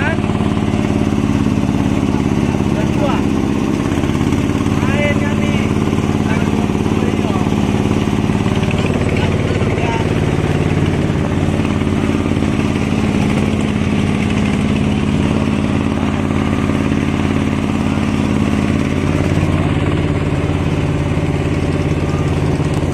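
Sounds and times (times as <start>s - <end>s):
small boat engine running: 0.0s - 22.9s.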